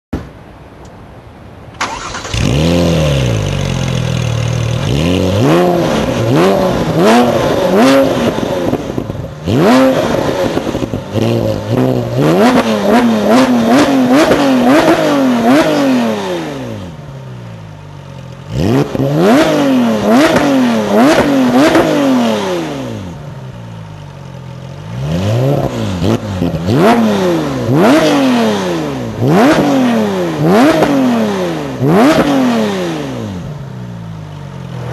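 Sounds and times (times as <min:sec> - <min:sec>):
sports car engine revving: 0:01.8 - 0:34.9.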